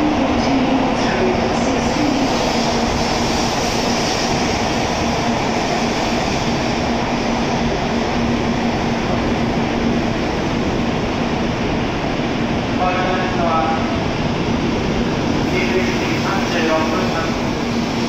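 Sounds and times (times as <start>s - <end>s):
train running and wheel noise: 0.0s - 18.0s.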